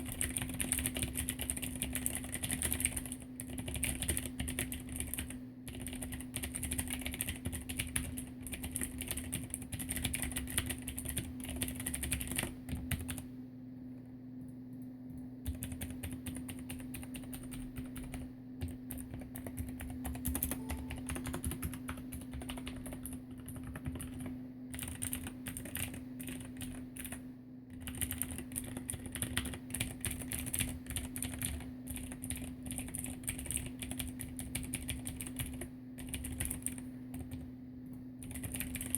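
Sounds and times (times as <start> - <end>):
typing on a mechanical keyboard: 0.0 - 13.3, 15.4 - 37.5, 38.2 - 38.9.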